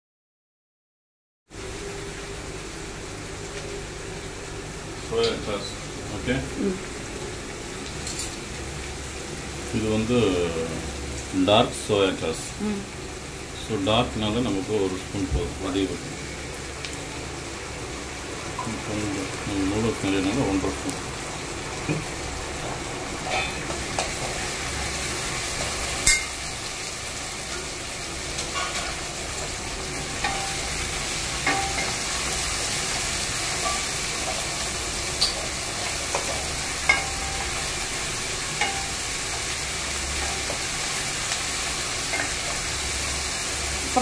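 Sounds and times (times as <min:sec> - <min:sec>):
food sizzling in a hot pot: 0:01.5 - 0:44.0.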